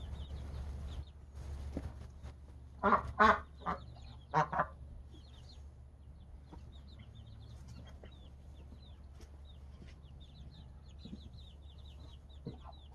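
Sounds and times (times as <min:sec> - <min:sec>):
chickens cheeping: 0:00.0 - 0:12.9
steady low hum: 0:00.0 - 0:12.9.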